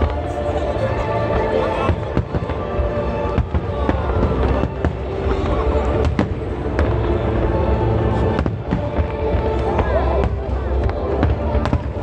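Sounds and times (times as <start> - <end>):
background music: 0.0 - 12.0
fireworks bursting: 0.0 - 12.0.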